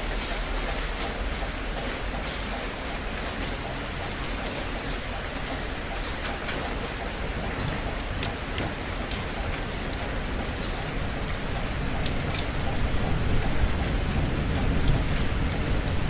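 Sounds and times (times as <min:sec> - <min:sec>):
raindrops ticking on surface: 0:00.0 - 0:16.0.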